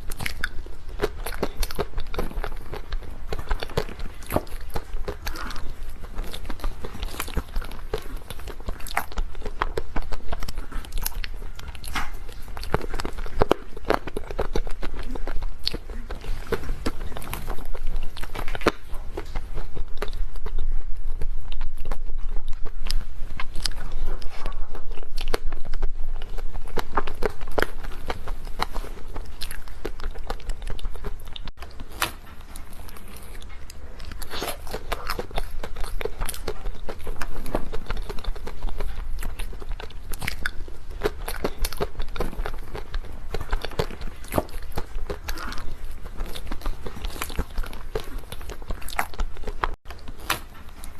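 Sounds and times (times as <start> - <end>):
chewing and crunching cake: 0.0 - 50.9.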